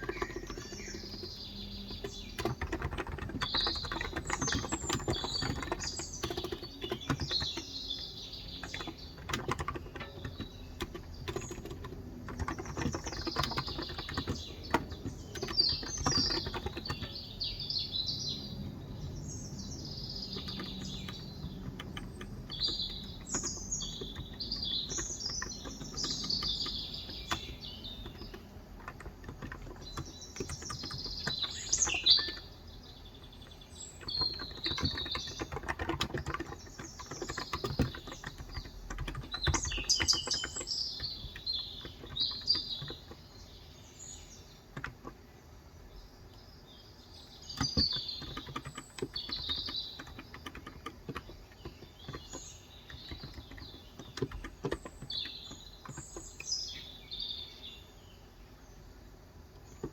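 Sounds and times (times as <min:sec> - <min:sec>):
typing on keyboard: 0:00.0 - 0:17.6, 0:18.8 - 0:43.3, 0:44.5 - 0:45.2, 0:47.6 - 0:56.9, 0:59.5 - 0:59.9
birds chirping: 0:00.0 - 0:59.9.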